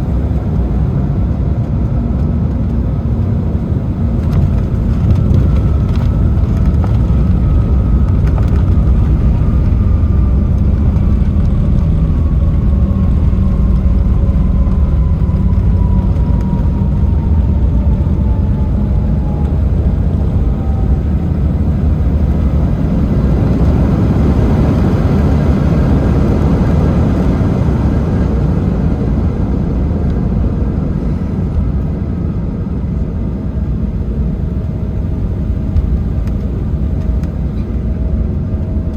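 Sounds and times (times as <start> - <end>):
aircraft cabin rumble: 0.0 - 38.9
turbofan engine whine: 0.0 - 38.9.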